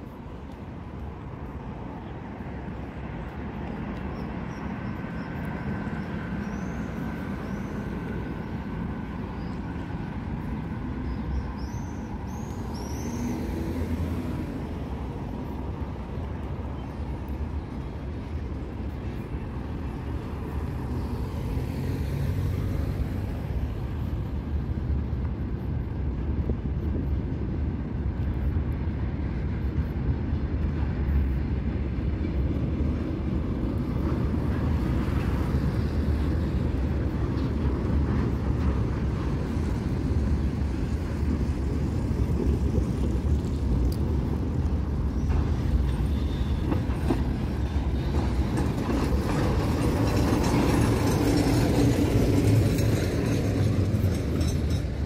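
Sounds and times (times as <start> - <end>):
city street traffic: 0.0 - 55.0
freight train rumbling over bridge: 0.0 - 55.0.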